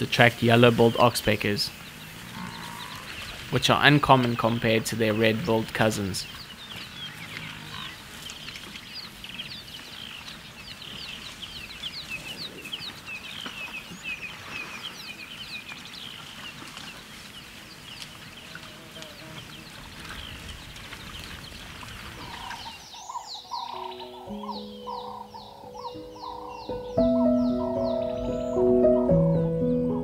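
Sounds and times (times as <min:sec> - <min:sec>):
birds chattering: 0:00.0 - 0:30.0.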